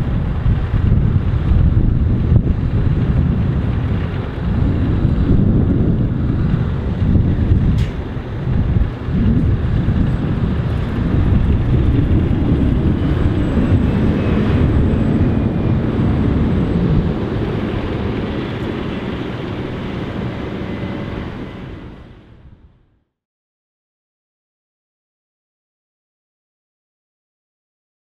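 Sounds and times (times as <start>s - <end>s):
diesel truck engine rumbling: 0.0s - 22.6s.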